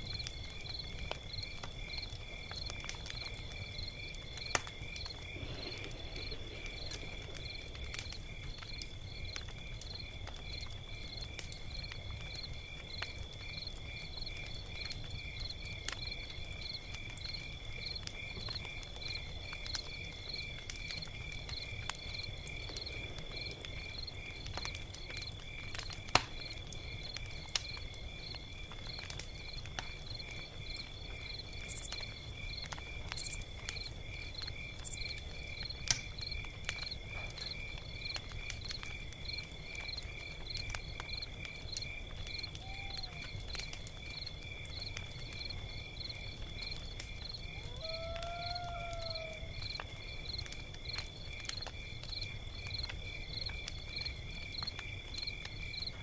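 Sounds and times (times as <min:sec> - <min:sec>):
insects trilling: 0:00.0 - 0:56.0
log fire crackling: 0:00.0 - 0:56.0.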